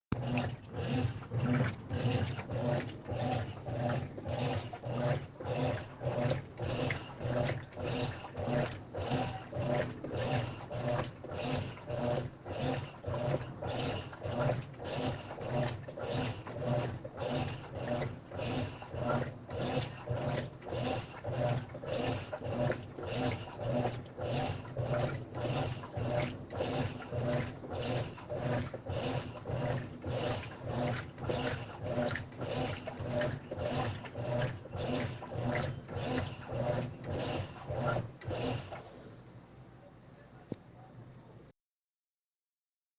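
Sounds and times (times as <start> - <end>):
washing machine swishing clothes: 0.1 - 39.1
low motor hum: 0.1 - 41.5.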